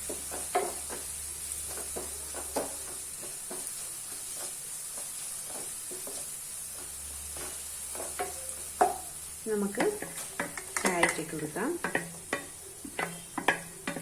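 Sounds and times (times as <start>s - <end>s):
onions sizzling in hot oil: 0.0s - 14.0s
spoon scraping and tapping pan: 0.0s - 14.0s.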